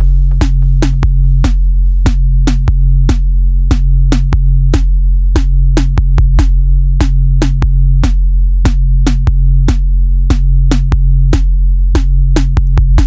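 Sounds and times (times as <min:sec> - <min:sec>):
drum machine beat: 0:00.0 - 0:13.0
sustained low bass: 0:00.0 - 0:13.0.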